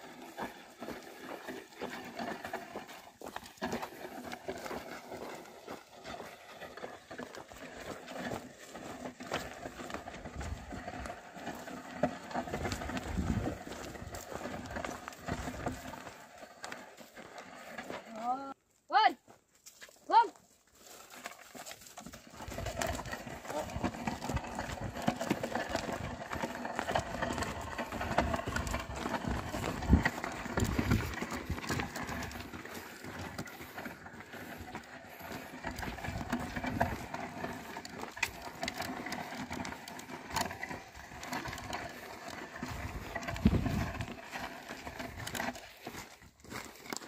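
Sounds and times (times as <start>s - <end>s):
plough scraping through soil: 0.0s - 47.0s.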